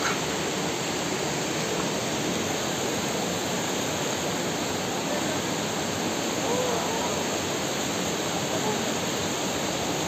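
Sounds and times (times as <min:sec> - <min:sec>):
water rushing in rocky stream: 0:00.0 - 0:10.0.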